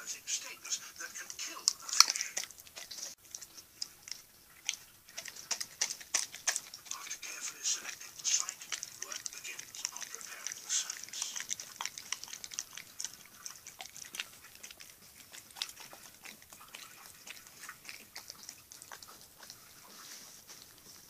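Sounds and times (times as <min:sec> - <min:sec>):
dog licking and smacking: 0:00.0 - 0:21.0.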